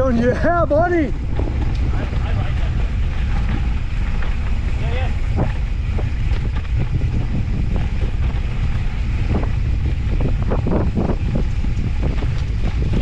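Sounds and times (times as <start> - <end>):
bike knocking and rattling: 0.0 - 13.0
wind buffeting microphone: 0.0 - 13.0.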